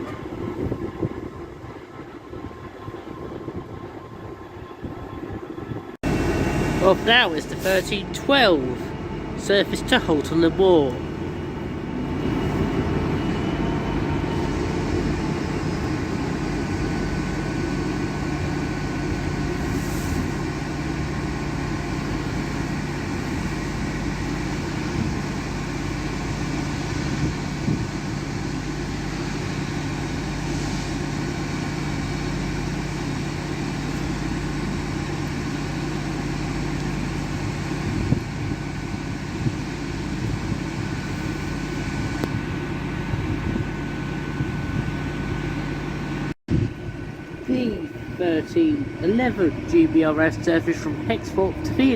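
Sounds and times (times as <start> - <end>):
diesel train engine hum: 0.0 - 51.9.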